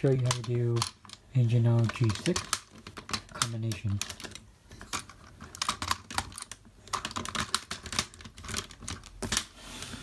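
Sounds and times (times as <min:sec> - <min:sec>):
plastic toy parts clicking: 0:00.0 - 0:09.5.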